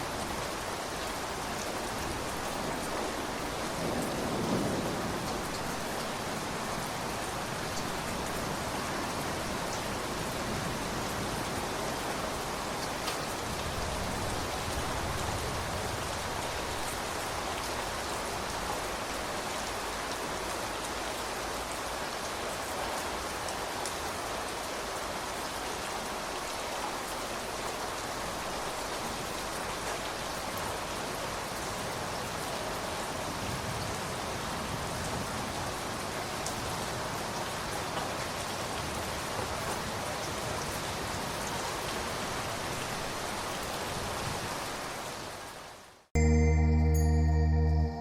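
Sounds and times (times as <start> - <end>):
heavy rain pattering: 0.0 - 45.8.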